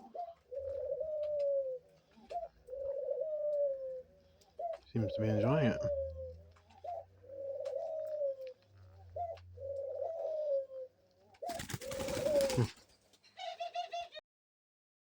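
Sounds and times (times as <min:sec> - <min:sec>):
dove cooing: 0:00.0 - 0:14.2.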